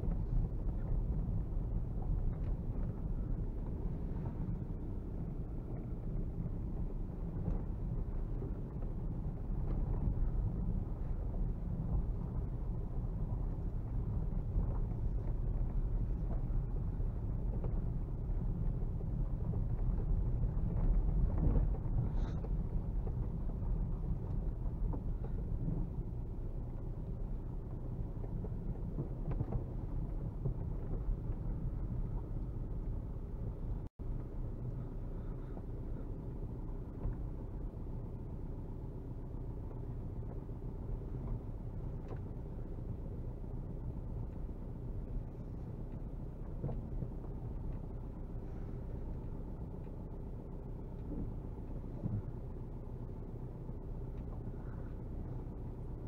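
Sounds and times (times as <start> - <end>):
diesel car engine rumble in cabin: 0.0 - 56.0.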